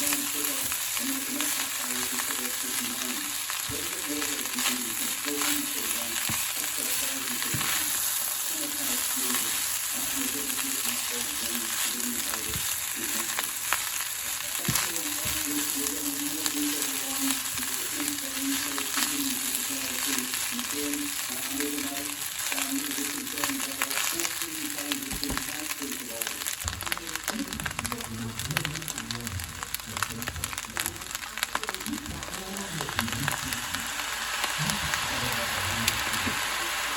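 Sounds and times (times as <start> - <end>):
rice sizzling in a pan: 0.0 - 36.9.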